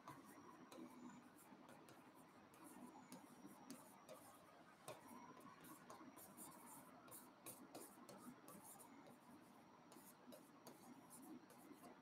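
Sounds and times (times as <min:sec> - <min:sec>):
pen scratching and tapping on screen: 0:00.0 - 0:12.0.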